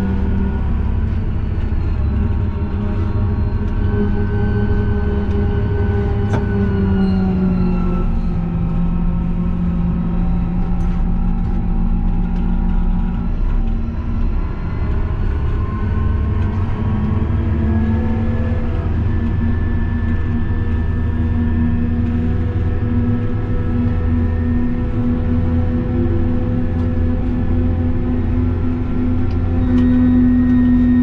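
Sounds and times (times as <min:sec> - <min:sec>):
tractor diesel engine droning: 0:00.0 - 0:31.0.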